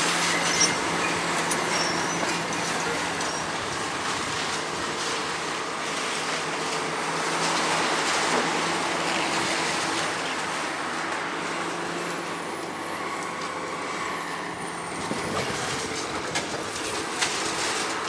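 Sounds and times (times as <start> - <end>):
excavator diesel engine and hydraulics: 0.0 - 18.0.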